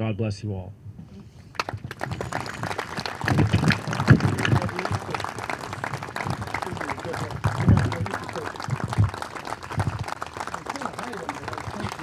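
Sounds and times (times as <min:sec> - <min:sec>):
audience applauding: 0:01.5 - 0:12.0
voices: 0:02.0 - 0:12.0.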